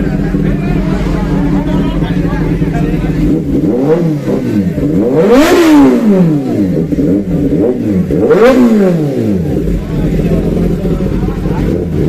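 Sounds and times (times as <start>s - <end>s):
superbike engines revving: 0.0s - 12.0s.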